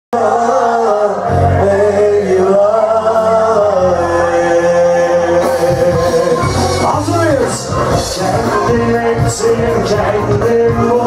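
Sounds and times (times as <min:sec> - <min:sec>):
bass: 0:00.1 - 0:11.0
live band pop music: 0:00.1 - 0:11.0.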